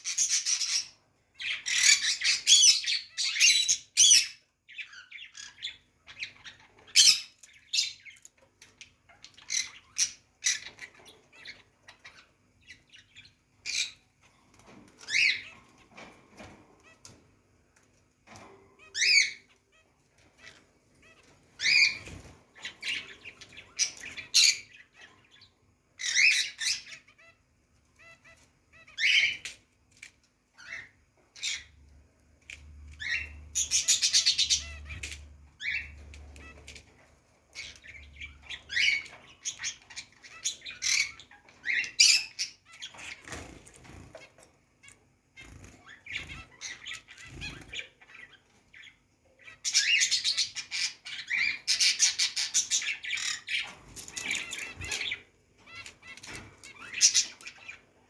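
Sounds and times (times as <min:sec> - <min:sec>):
pet birds chirping and squawking: 0:00.0 - 0:58.0.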